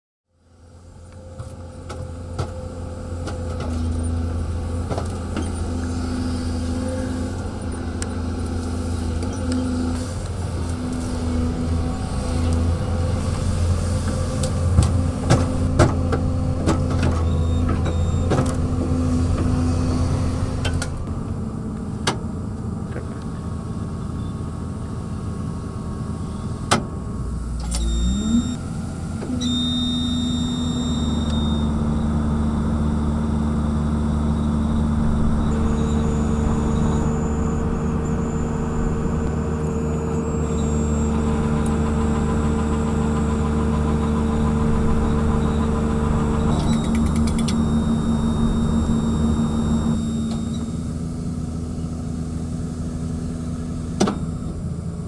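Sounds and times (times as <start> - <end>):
excavator engine running: 0.4 - 55.0
brief rising whine: 4.3 - 21.4, 25.4 - 52.4.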